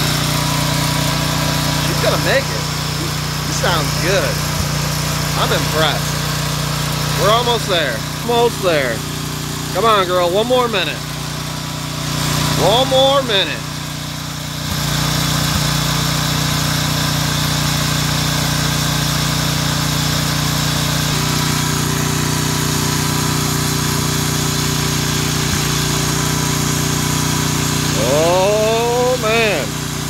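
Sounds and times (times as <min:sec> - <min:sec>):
pressure washer engine running: 0:00.0 - 0:30.0.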